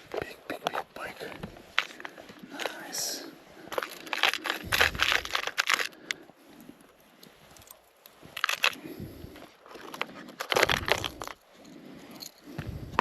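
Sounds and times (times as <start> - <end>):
crunching and crackling: 0.0 - 13.0.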